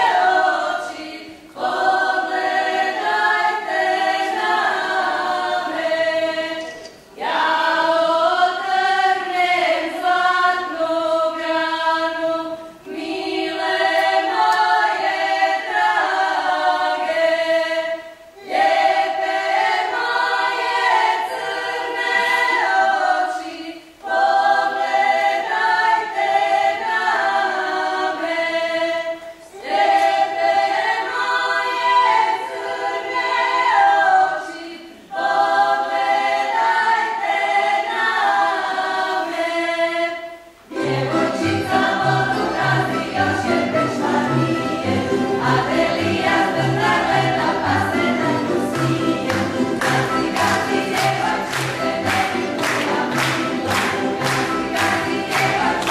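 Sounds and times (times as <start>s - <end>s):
women's choir singing unaccompanied: 0.0s - 55.9s.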